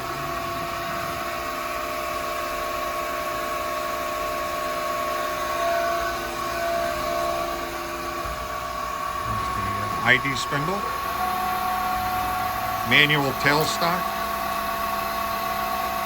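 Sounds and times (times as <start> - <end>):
grinding machine hum and whine: 0.0 - 16.0.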